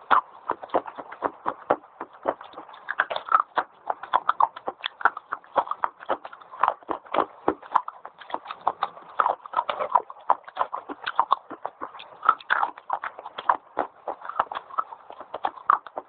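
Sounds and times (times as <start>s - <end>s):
crunching while chewing: 0.0s - 16.0s.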